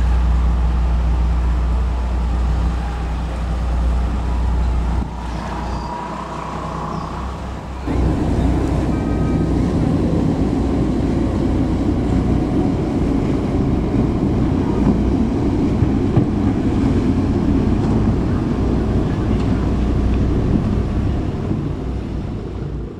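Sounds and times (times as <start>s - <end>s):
boat engines droning: 0.0s - 22.9s.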